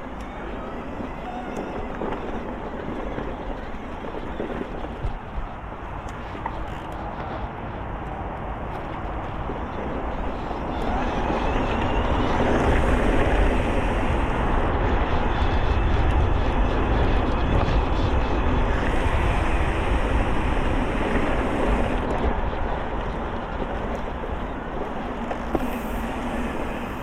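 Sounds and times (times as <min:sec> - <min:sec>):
tyres rolling over trail: 0:00.0 - 0:27.0
wind rushing over microphone: 0:00.0 - 0:27.0.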